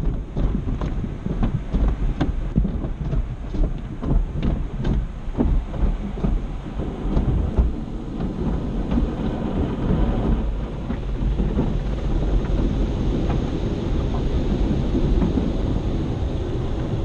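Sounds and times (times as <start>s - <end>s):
car wash equipment rumbling: 0.0s - 17.0s
water ticking on glass: 0.0s - 17.0s.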